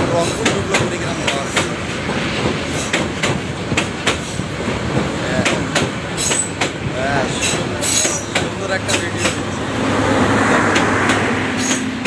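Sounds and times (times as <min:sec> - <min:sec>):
train wheels clattering over rail joints: 0:00.0 - 0:12.0.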